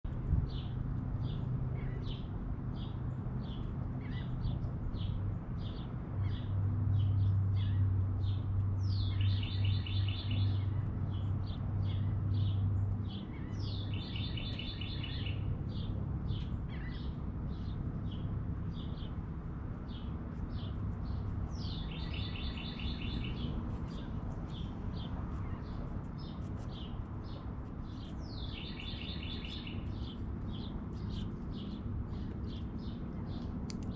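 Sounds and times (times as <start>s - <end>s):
low steady hum: 0.0s - 33.9s
small songbirds chirping: 0.1s - 33.9s.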